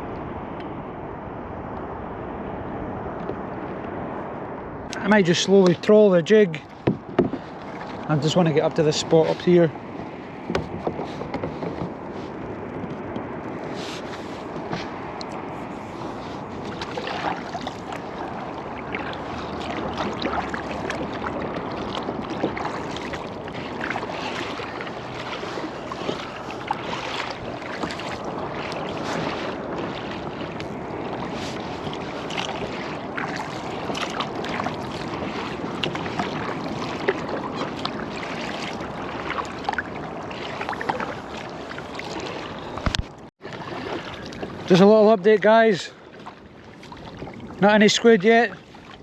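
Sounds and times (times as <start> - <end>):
water splashing around a kayak: 0.0 - 49.0.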